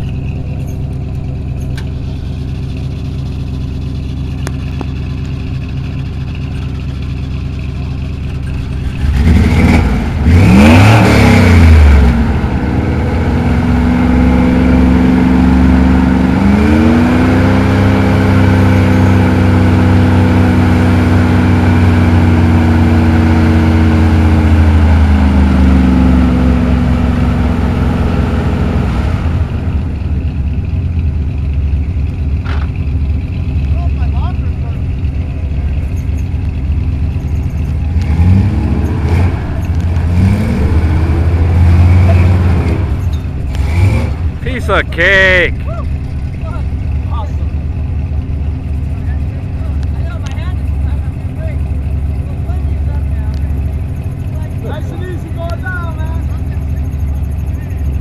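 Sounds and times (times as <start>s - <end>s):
truck engine idling and revving: 0.0s - 58.0s.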